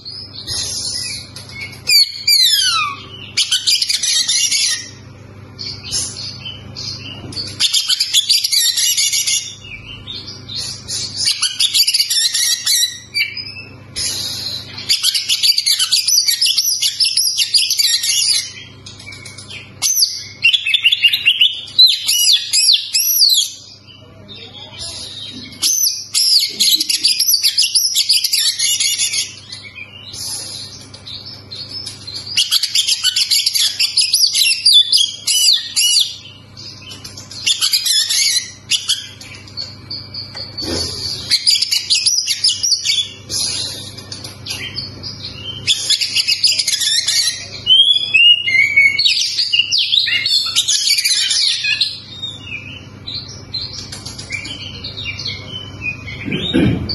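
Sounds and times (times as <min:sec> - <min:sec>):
bird singing whistles and warbles: 0:05.7 - 0:56.6.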